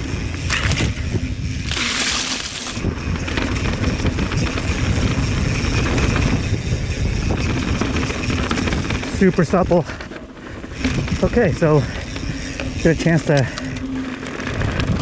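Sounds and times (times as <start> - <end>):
wind on microphone: 0.0 - 9.9, 10.7 - 15.0
bike tyres rolling on dirt trail: 0.0 - 15.0.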